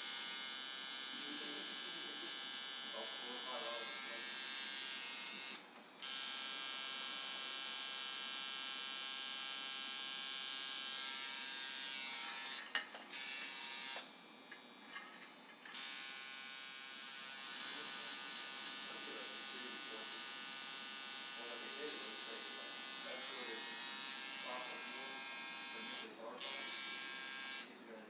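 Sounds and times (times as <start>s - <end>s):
tattoo machine buzzing: 0.0s - 27.7s.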